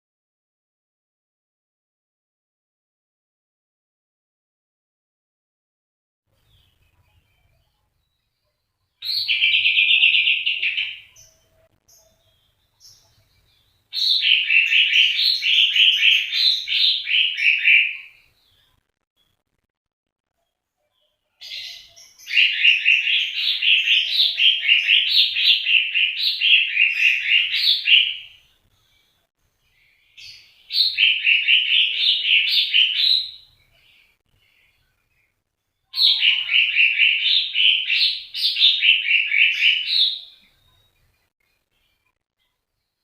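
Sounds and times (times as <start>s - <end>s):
songbird chirping: 6.3s - 19.5s, 20.2s - 43.0s.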